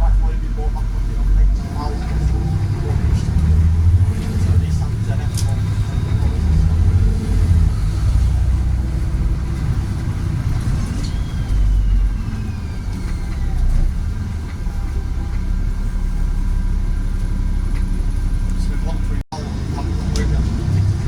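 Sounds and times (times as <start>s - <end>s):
bus diesel engine rumble: 0.0s - 21.0s.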